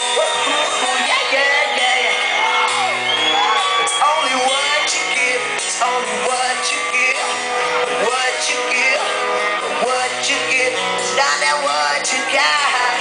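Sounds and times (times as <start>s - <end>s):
person singing: 0.0s - 2.9s, 3.9s - 13.0s
live hard rock band: 0.0s - 13.0s.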